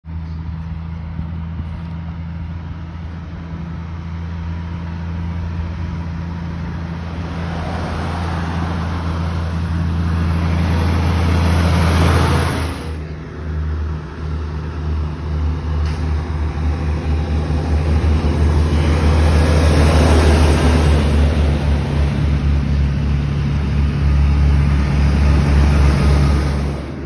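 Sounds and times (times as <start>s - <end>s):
truck engine drone: 0.0s - 27.0s.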